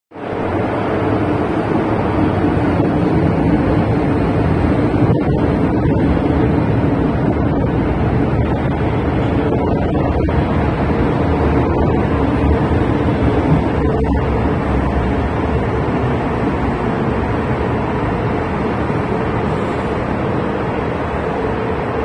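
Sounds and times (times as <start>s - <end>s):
train rumbling into station: 0.1s - 22.0s.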